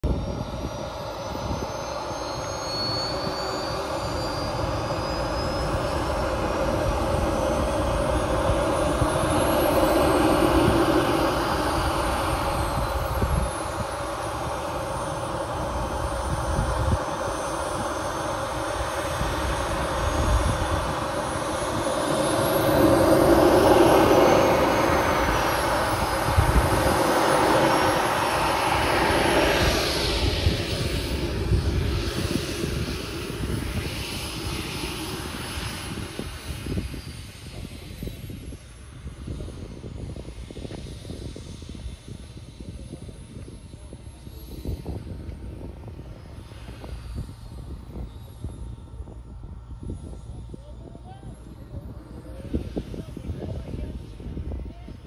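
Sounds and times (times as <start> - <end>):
model jet turbine whine: 0.0 - 55.0.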